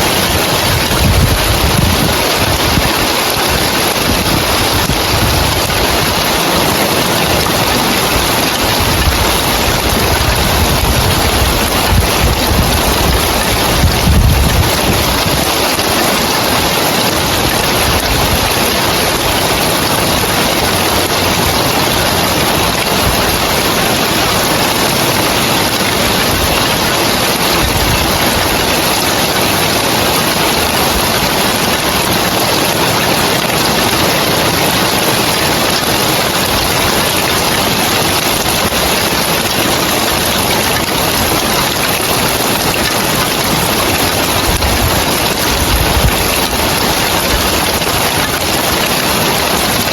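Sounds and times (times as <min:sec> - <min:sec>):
heavy rain on roof tiles: 0:00.0 - 0:49.9.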